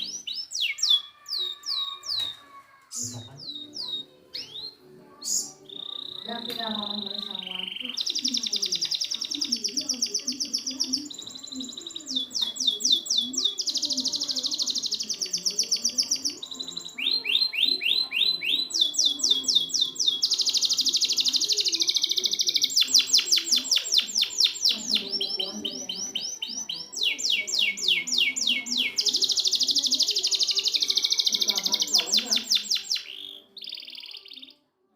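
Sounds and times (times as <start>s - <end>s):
canary singing fast trills: 0.0s - 34.6s.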